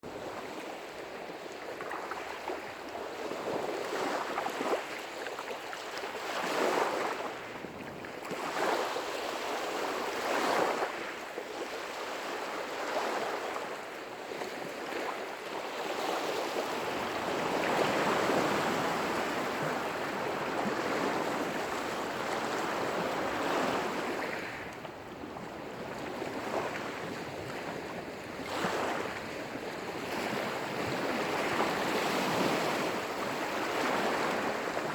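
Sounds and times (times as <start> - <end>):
lake waves washing on shore: 0.0 - 34.9.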